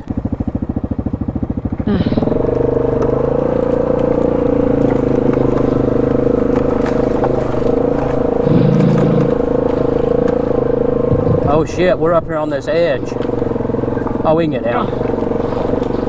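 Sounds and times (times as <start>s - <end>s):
engine idling and revving: 0.0s - 16.0s.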